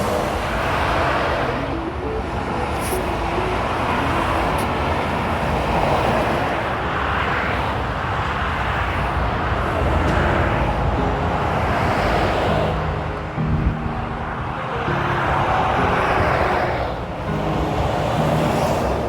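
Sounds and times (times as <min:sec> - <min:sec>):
trucks passing at speed: 0:00.0 - 0:19.0.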